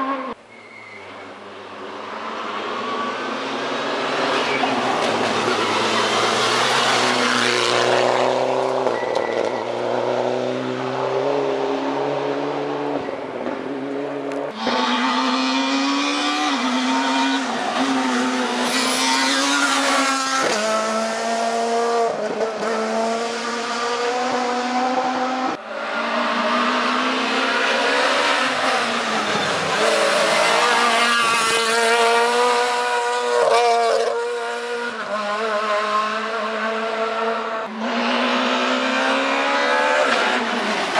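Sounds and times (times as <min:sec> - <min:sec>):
rally cars revving past: 0:01.9 - 0:40.9.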